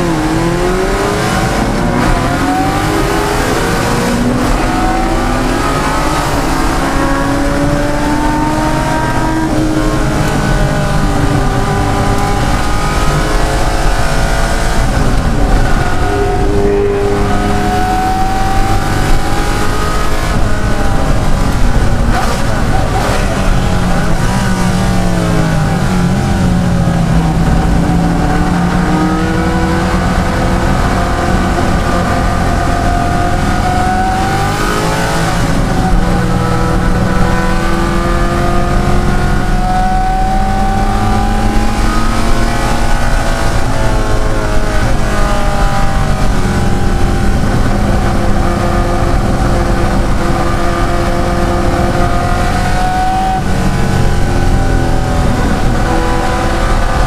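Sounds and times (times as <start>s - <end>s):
car engine racing under load: 0.0s - 57.0s.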